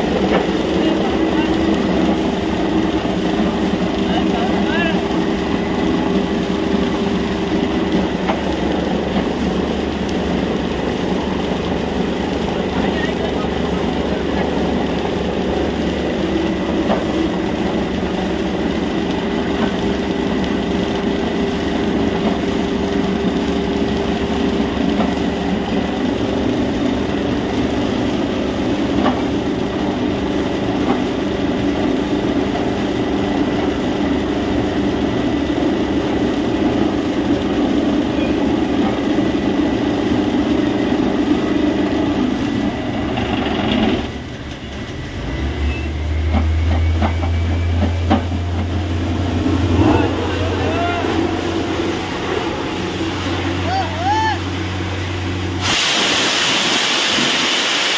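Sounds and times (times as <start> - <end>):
engine and compressor drone: 0.0 - 57.9
water and rock cuttings rushing: 0.0 - 57.9.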